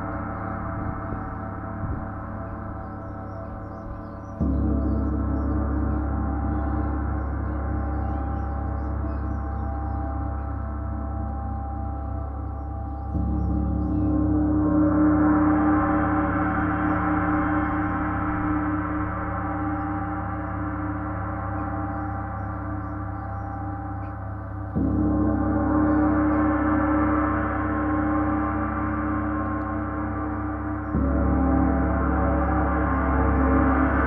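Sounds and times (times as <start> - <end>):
gong struck with mallet ringing: 0.0 - 34.0.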